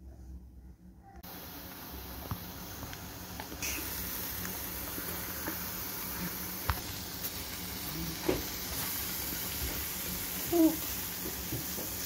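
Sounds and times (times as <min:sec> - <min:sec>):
food sizzling in skillet: 0:01.2 - 0:12.0.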